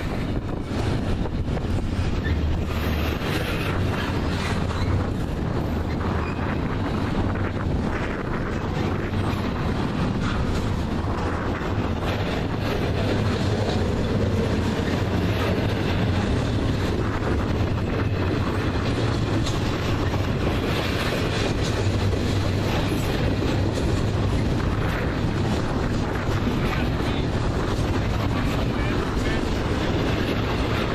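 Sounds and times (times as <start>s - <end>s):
freight train rumble: 0.0s - 30.9s
wheels clicking over rail joints: 0.0s - 30.9s.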